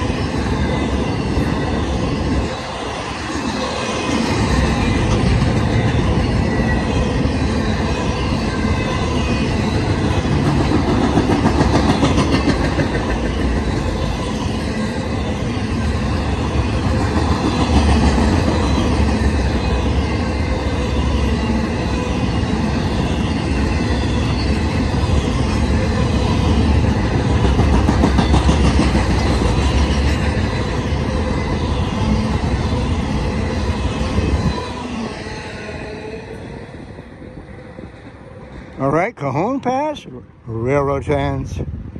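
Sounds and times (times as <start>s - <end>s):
freight train wheels on rail: 0.0s - 41.9s.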